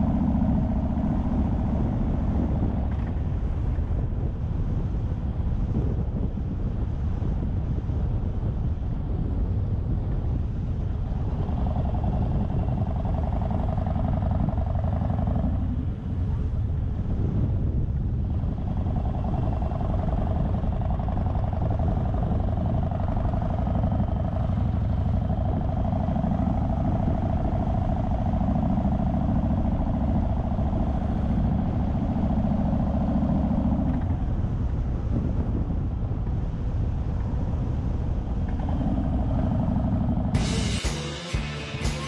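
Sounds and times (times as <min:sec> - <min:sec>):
motorcycle engine cruising: 0:00.0 - 0:42.0
road noise: 0:00.0 - 0:42.0.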